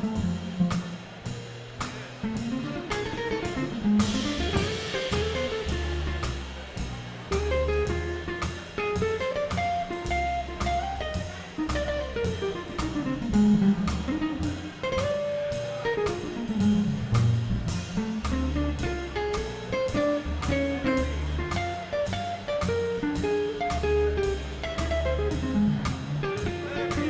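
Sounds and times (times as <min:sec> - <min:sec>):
drums keeping a steady beat: 0:00.0 - 0:27.0
guitar: 0:00.0 - 0:27.0
walking bass line: 0:00.0 - 0:27.0.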